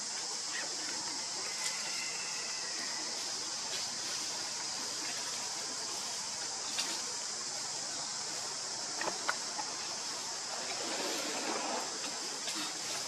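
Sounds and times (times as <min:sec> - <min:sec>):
forest ambience hiss: 0:00.0 - 0:13.0.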